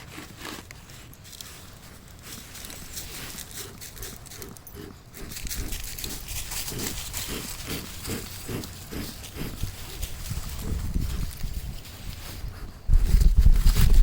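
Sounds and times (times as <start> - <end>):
wind rumbling on microphone: 1.8 - 14.0.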